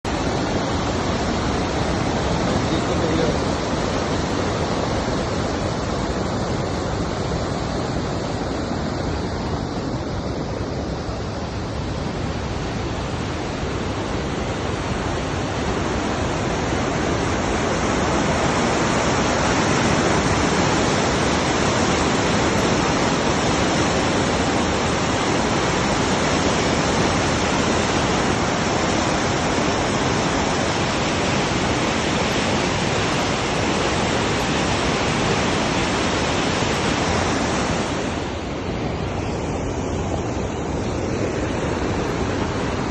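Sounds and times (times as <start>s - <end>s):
river torrent rushing: 0.0s - 42.9s.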